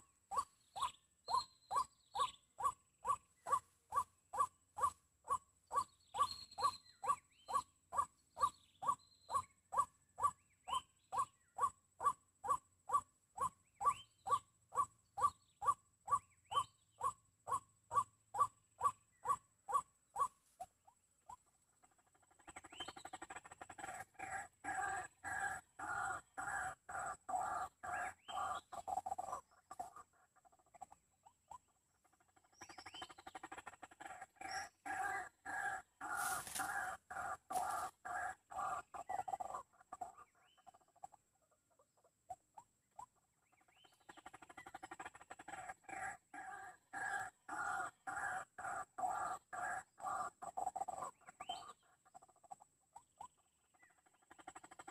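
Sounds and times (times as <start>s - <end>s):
raucous croaking bird chorus: 0.0s - 54.9s.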